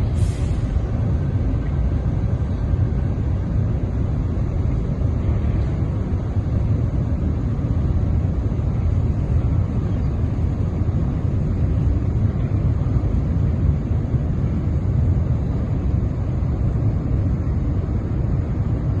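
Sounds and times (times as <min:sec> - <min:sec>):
low rumble: 0:00.0 - 0:19.0
wind buffeting microphone: 0:00.0 - 0:19.0.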